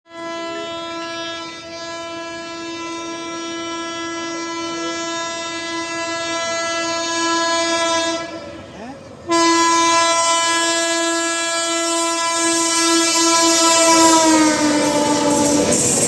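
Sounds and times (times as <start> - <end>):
train horn long blast: 0.1 - 8.7, 9.3 - 16.0.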